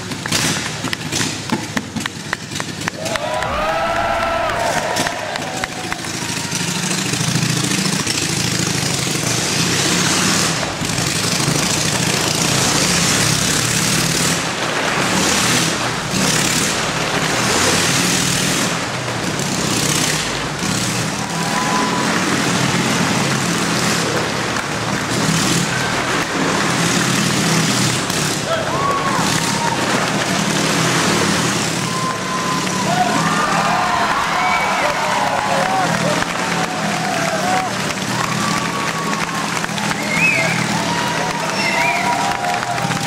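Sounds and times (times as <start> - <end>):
motorcycle engine running hard: 0.0 - 3.4, 4.1 - 43.0.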